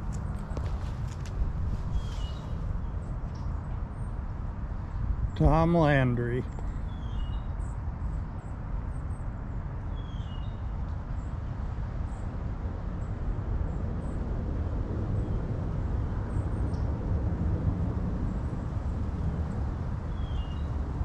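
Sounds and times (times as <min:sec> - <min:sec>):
outdoor background rumble: 0:00.0 - 0:21.0.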